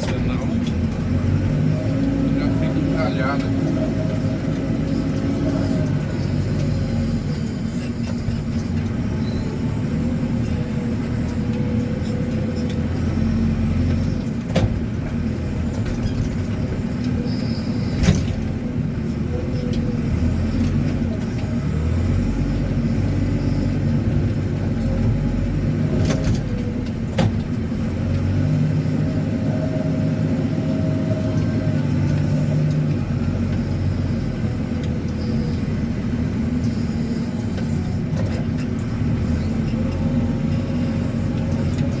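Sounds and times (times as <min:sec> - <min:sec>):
backhoe diesel engine working: 0:00.0 - 0:42.0.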